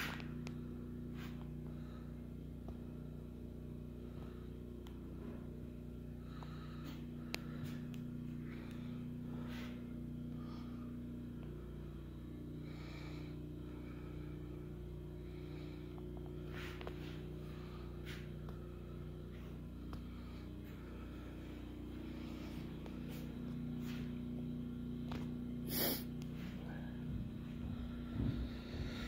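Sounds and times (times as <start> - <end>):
furnace humming: 0.0 - 29.0.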